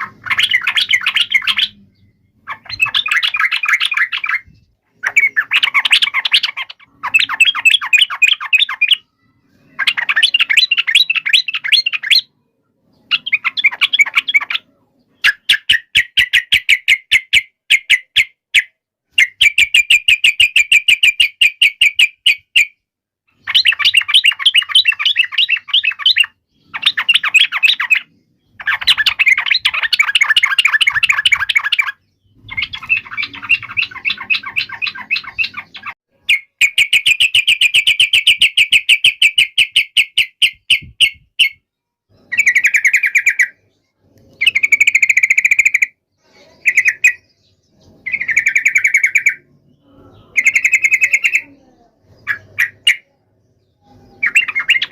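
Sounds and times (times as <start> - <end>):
bird harsh chattering calls: 0.0 - 54.9.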